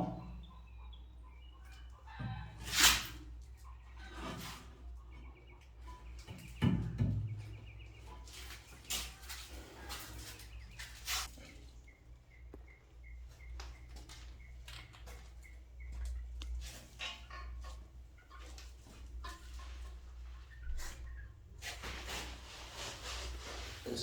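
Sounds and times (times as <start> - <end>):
bird chirping: 0.0 - 2.6, 3.5 - 21.6.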